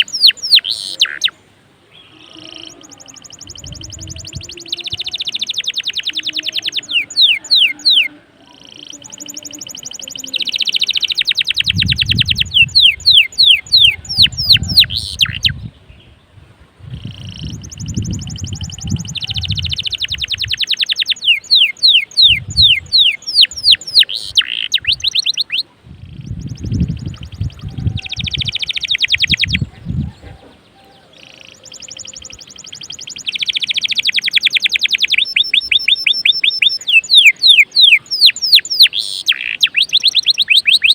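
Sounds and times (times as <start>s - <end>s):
canary singing trills: 0.0s - 16.2s, 16.9s - 40.9s.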